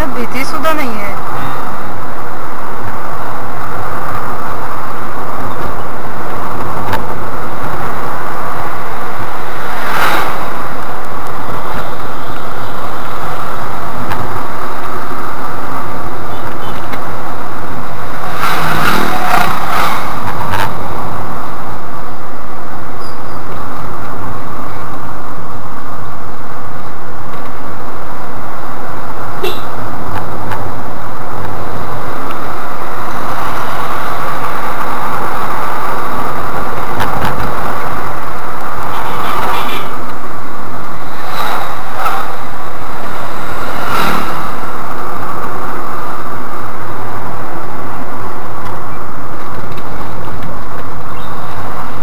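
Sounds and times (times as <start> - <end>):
road and engine noise in car: 0.0 - 52.0.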